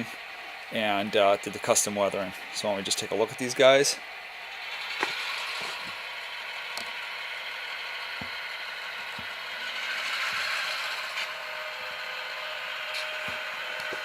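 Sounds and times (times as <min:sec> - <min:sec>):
model train diesel engine sound: 0:00.0 - 0:14.0.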